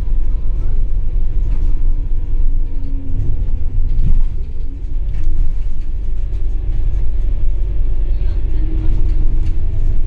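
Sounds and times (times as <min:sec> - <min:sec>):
bus diesel engine rumbling: 0:00.0 - 0:10.0.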